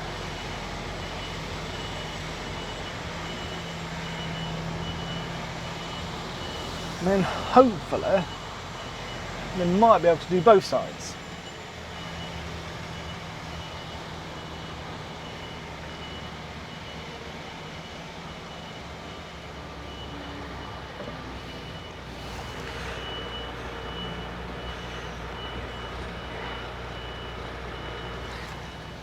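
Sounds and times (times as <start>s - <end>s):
diesel lorry engine at low revs: 0.0s - 29.0s
reversing alarm: 0.0s - 29.0s.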